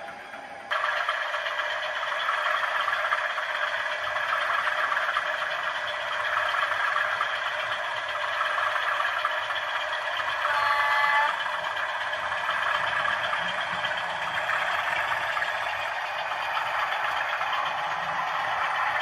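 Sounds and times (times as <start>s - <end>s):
diesel engine sound from small speaker: 0.0s - 19.0s.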